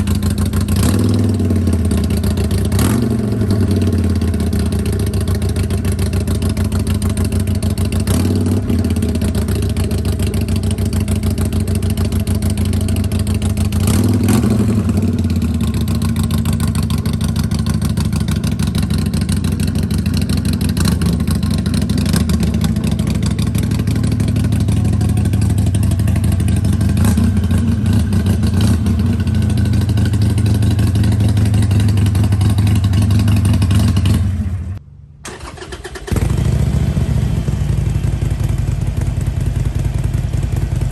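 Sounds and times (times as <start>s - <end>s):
motorcycle engine idling: 0.0s - 35.6s, 36.2s - 40.9s.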